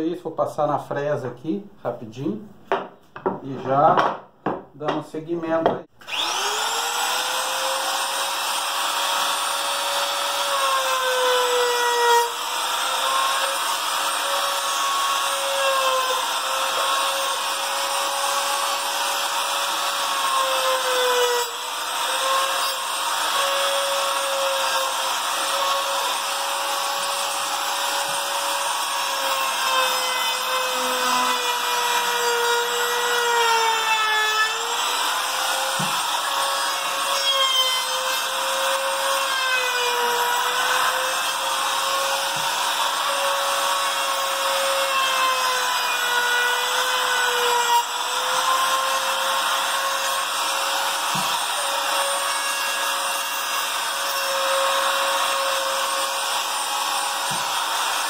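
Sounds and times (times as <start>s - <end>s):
trim router cutting wood: 6.0s - 58.0s.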